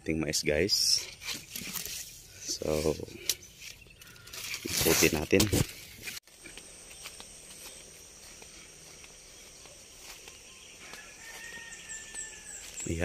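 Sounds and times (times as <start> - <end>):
insects chirring: 0.2 - 13.0.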